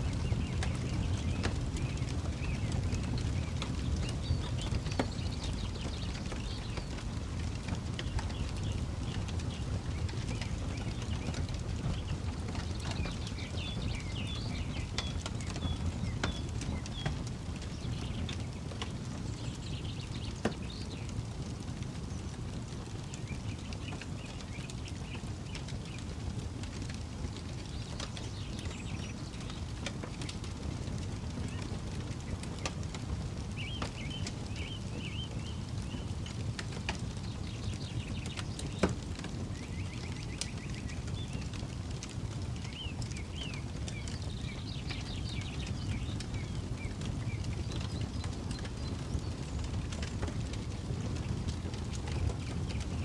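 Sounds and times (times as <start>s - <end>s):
birds chirping: 0.0s - 53.0s
campfire crackling and popping: 0.0s - 53.0s.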